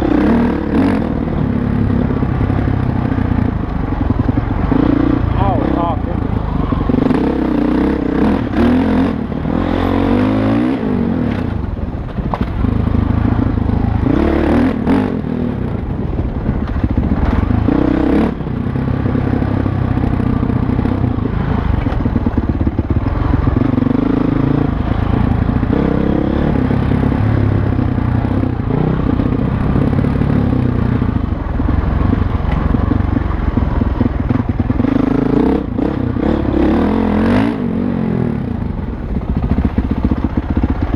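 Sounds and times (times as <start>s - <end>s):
dirt bike engine revving: 0.0s - 11.8s, 12.4s - 16.0s, 16.6s - 31.2s, 31.8s - 38.6s.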